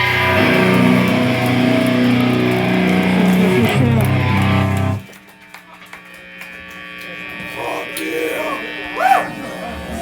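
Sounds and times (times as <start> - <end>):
rock band electric guitar and bass: 0.0 - 5.2, 6.2 - 10.0.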